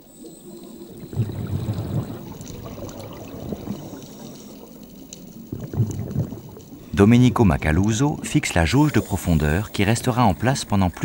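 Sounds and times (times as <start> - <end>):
underwater bubbling: 0.0 - 11.0.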